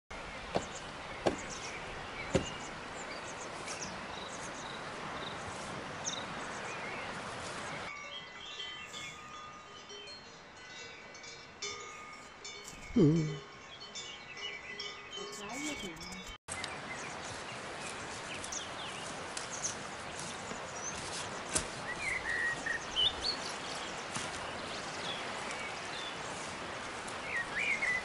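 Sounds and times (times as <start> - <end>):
birds chirping: 0.1 - 28.0
songbird song: 0.1 - 28.0.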